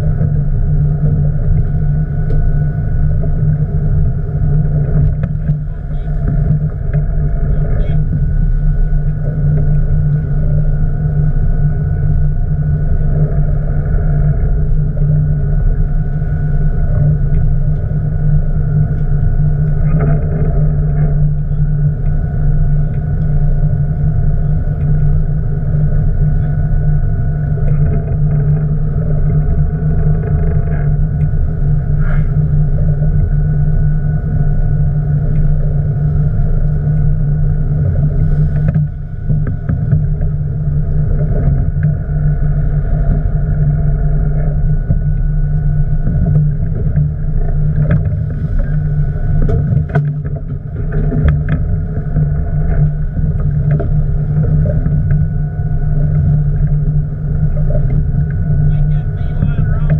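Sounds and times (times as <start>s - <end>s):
boat engine rumbling: 0.0s - 59.9s.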